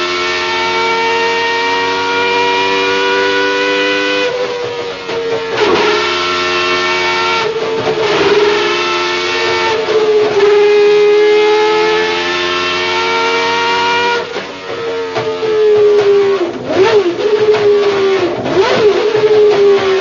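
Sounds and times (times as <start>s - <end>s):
racing engine screaming at high revs: 0.0s - 20.0s.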